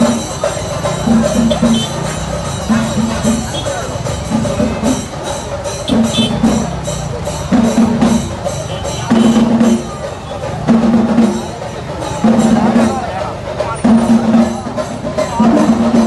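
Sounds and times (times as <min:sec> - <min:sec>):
music with percussion beat: 0:00.0 - 0:16.0.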